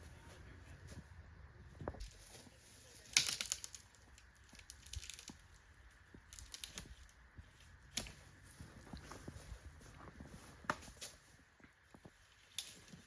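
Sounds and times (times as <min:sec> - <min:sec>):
dry twigs crackling and snapping: 0:01.9 - 0:11.2, 0:11.8 - 0:13.0.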